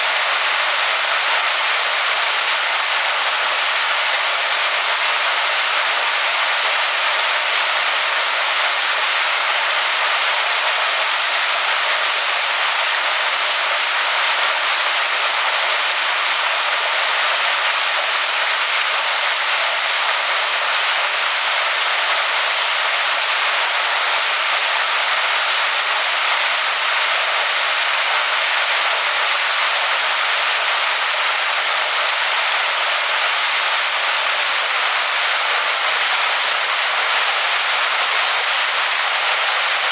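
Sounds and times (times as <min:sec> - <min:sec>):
waterfall pouring onto rocks: 0:00.0 - 0:39.9.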